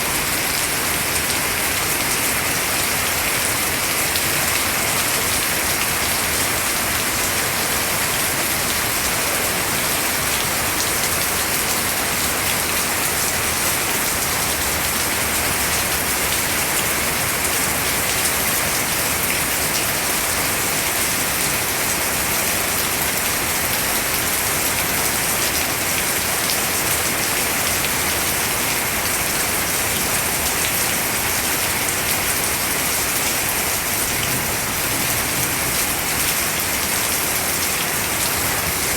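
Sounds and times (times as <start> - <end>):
steady rain on foliage: 0.0 - 38.9.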